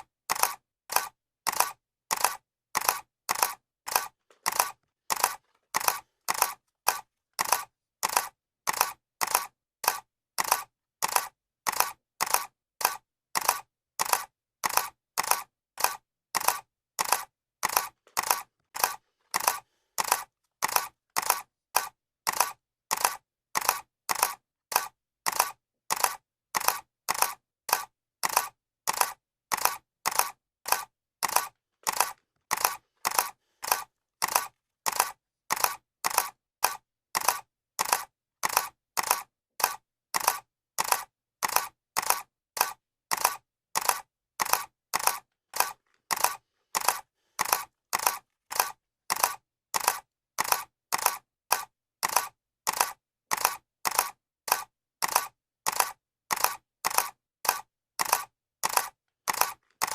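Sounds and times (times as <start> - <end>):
camera shutter clicks: 0.3 - 59.9.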